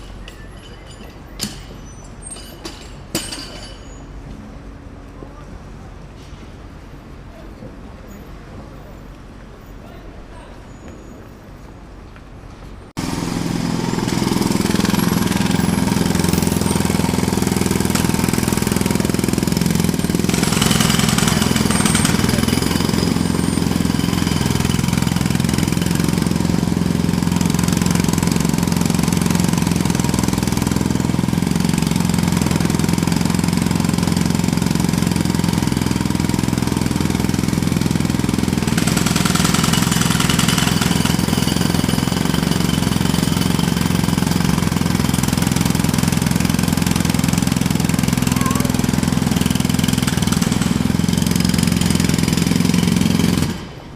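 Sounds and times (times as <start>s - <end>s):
jackhammer hammering: 0.0s - 3.9s, 13.0s - 53.9s.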